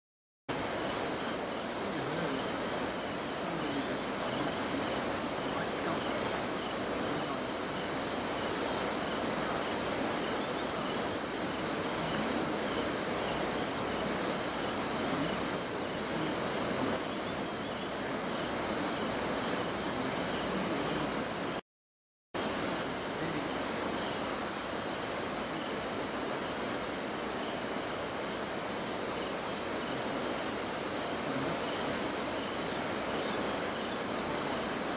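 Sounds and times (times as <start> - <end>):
high-pitched insect chorus: 0.5 - 21.6, 22.4 - 34.9.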